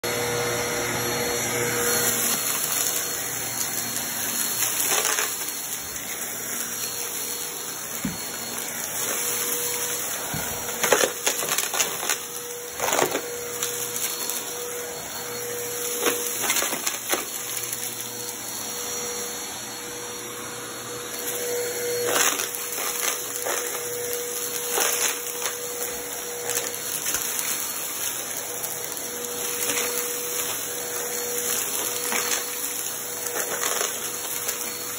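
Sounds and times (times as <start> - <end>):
vacuum cleaner motor whine: 0.0 - 34.9.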